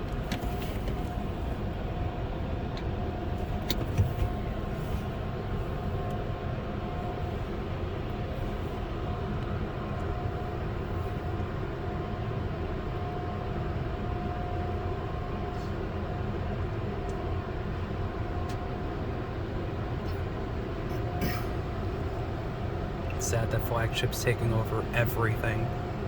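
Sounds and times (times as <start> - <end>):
car wash machinery rumble: 0.0 - 26.0
faint constant hum: 0.0 - 26.0.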